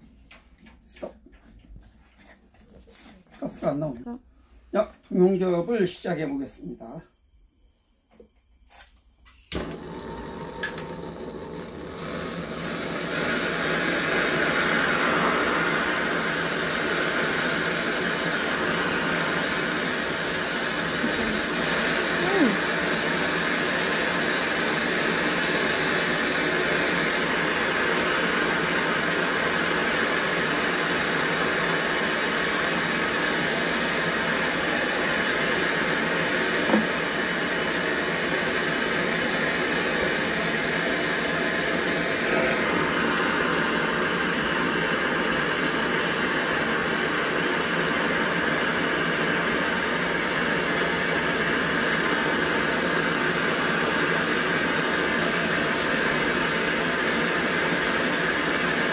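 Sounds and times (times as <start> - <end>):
gas torch hissing: 5.7 - 58.9.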